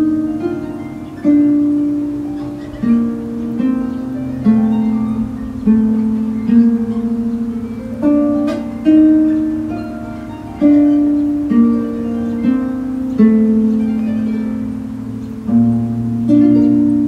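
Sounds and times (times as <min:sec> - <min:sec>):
harp melody: 0:00.0 - 0:17.0.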